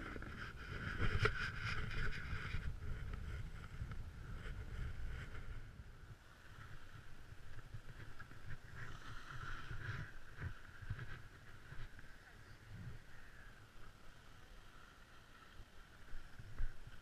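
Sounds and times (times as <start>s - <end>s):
rumbling and scraping on snow: 0.0s - 17.0s.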